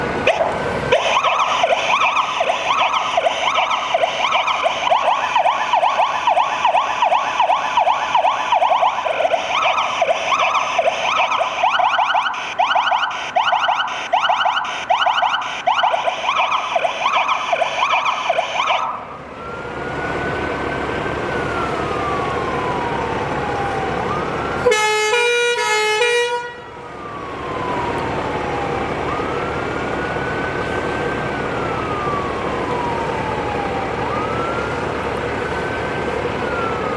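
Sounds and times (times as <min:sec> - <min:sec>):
fire engine siren yelp: 0:00.0 - 0:36.9
rapidly alternating siren tones: 0:00.0 - 0:36.9
siren wail: 0:00.0 - 0:36.9.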